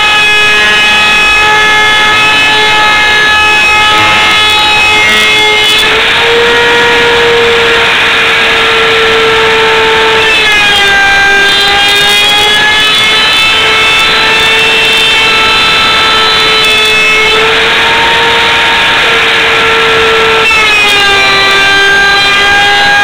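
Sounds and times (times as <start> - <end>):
router high whine: 0.0 - 23.0.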